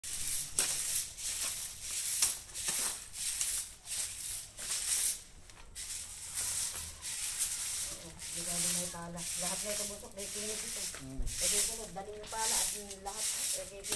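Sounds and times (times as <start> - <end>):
broom sweeping dry leaves: 0.0 - 13.9.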